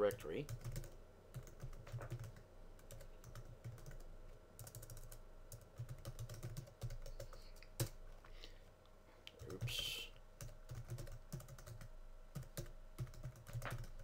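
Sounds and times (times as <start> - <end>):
typing on a computer keyboard: 0.1 - 8.0, 10.4 - 14.0.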